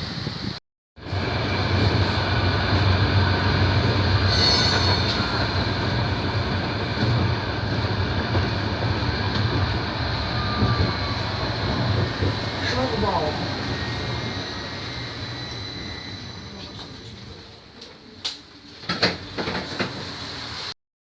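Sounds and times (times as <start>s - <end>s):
tram rumbling on rails: 0.0s - 20.7s.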